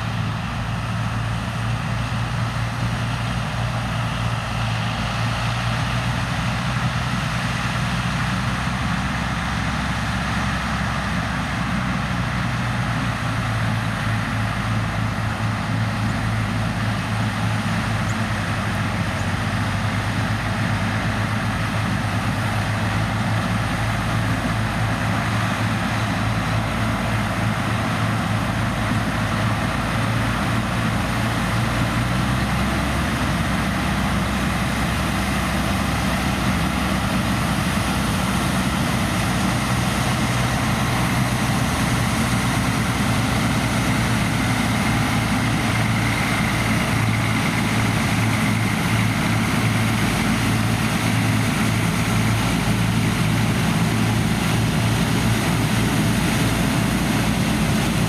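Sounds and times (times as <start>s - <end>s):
diesel machinery engine humming: 0.0s - 58.0s.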